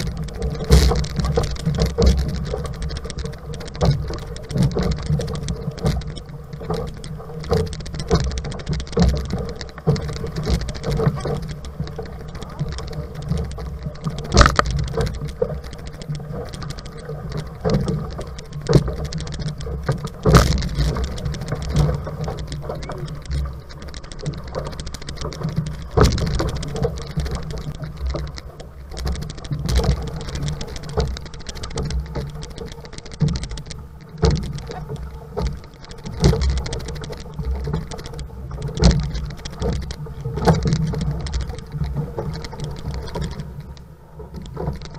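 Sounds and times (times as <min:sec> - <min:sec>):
knocks and slaps of hull and paddles: 0:00.0 - 0:44.9
water rushing along a hull: 0:00.0 - 0:44.9.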